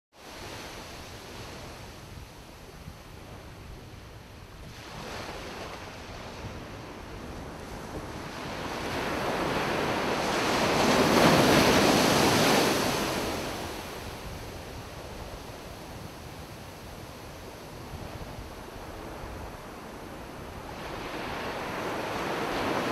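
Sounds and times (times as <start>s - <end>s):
ocean surf breaking on beach: 0.2s - 22.9s.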